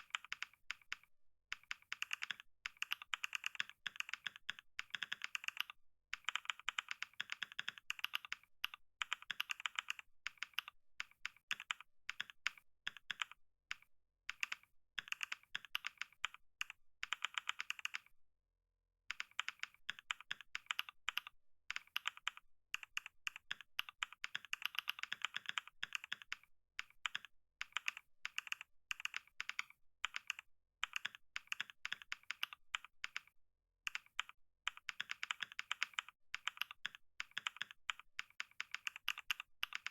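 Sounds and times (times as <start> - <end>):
fast keyboard typing: 0.0 - 13.4, 14.3 - 18.0, 19.1 - 33.3, 33.9 - 39.9.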